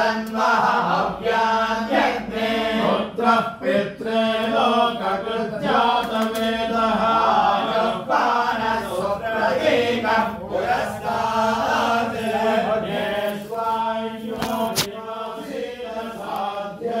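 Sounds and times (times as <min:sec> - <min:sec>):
voices chanting in unison: 0:00.0 - 0:17.0.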